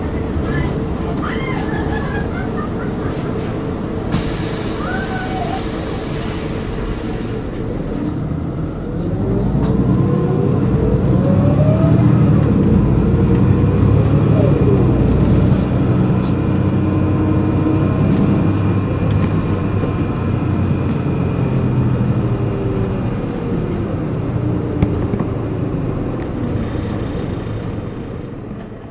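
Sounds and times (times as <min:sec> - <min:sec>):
bus diesel engine accelerating: 0:00.0 - 0:28.9.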